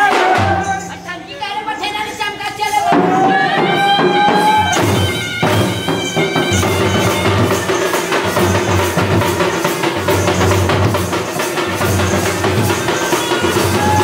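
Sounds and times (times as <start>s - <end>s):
drums beating steady rhythm: 0.0s - 14.0s.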